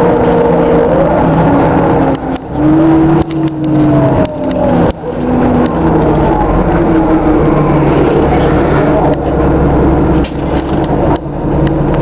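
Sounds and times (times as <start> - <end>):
bus engine droning: 0.0 - 12.0
road noise: 0.0 - 12.0.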